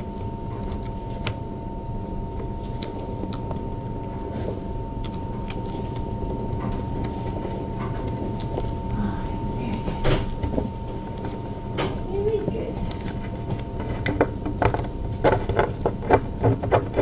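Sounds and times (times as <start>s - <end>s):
steady low rumble: 0.0s - 16.4s
thin whine: 0.0s - 17.0s.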